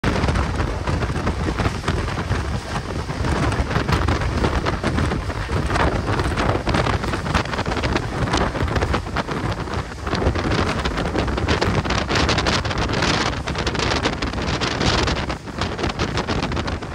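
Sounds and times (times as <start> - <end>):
moving train rumbling and rattling: 0.0 - 16.9
wind buffeting microphone: 0.0 - 16.9.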